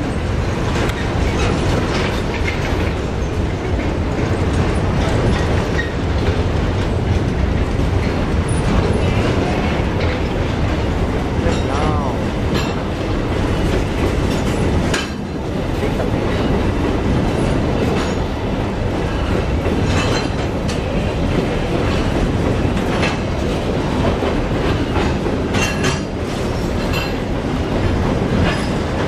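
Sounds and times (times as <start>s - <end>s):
train wheels rumbling on rail: 0.0s - 29.0s
wheels clacking over rail joints: 0.0s - 29.0s.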